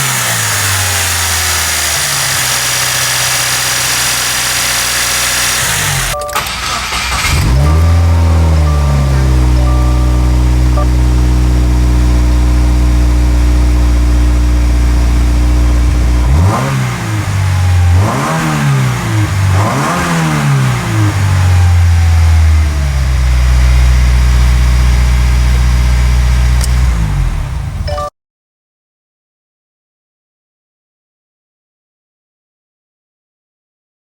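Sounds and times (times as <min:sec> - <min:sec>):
car engine idling: 0:00.0 - 0:27.8
car engine revving: 0:00.0 - 0:27.8.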